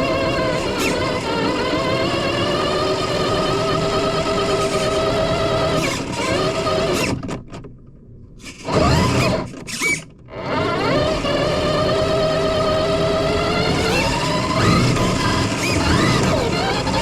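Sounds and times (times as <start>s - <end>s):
drone motors whining: 0.0s - 7.3s, 8.4s - 17.0s.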